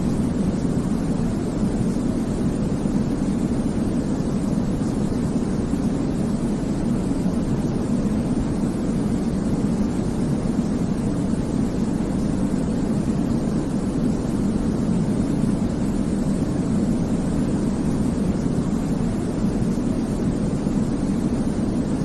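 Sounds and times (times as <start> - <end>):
deep rushing white noise: 0.0 - 22.0.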